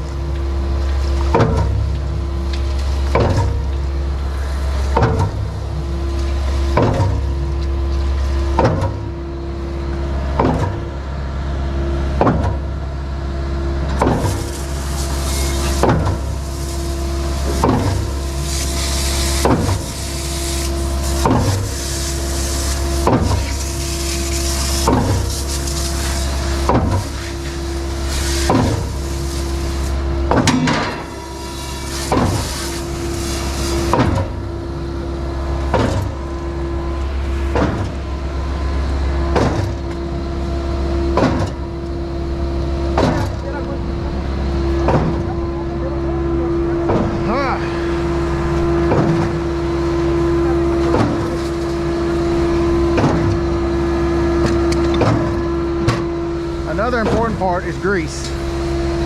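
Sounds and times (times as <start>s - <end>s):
skid steer engine drone: 0.0s - 59.0s.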